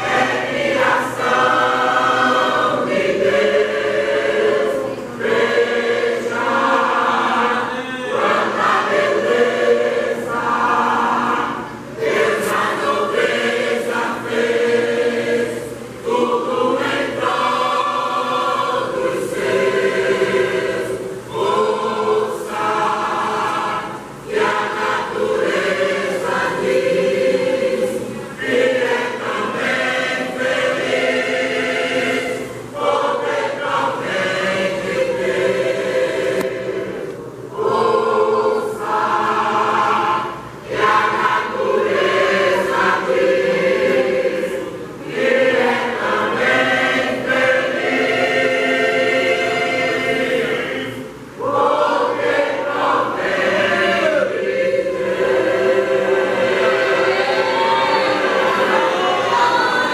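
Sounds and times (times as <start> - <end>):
church choir singing a hymn: 0.0 - 59.9.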